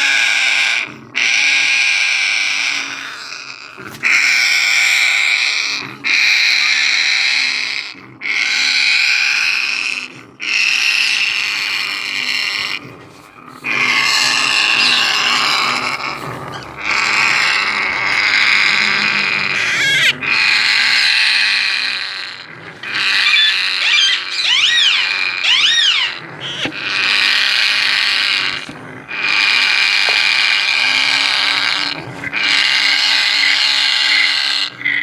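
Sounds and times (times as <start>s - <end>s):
parrots making harsh raspy calls: 0.0s - 35.0s.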